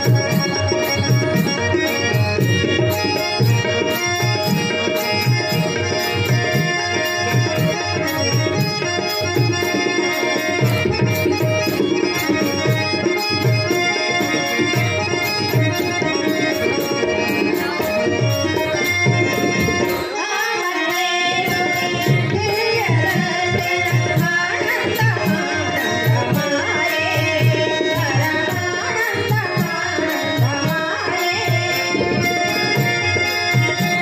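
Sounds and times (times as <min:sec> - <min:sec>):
tabla drums: 0:00.0 - 0:34.0
voices singing: 0:00.0 - 0:34.0.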